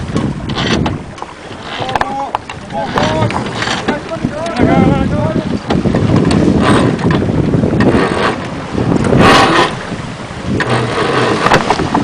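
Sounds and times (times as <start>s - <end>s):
water rushing along a hull: 0.0s - 12.0s
wind buffeting the microphone: 0.0s - 12.0s.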